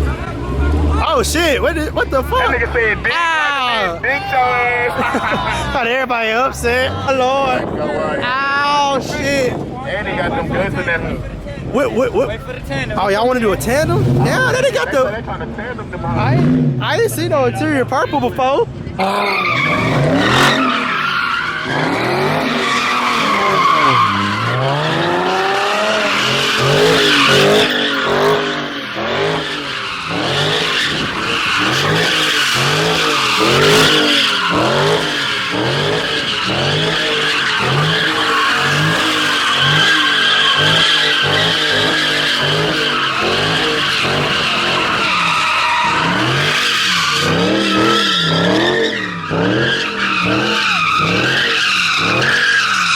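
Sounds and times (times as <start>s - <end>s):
car engines revving: 0.0s - 52.9s
tires screeching: 0.0s - 52.9s.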